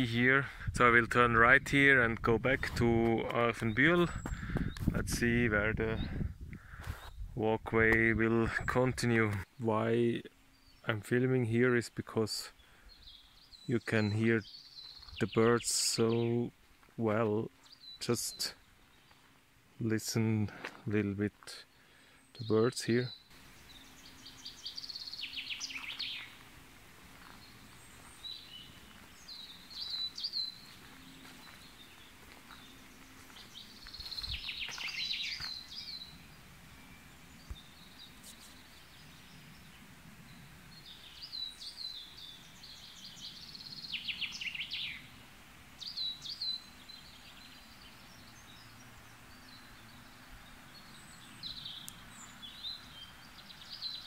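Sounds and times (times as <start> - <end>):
faint background noise: 0.0 - 54.0
songbirds trilling: 0.0 - 54.0.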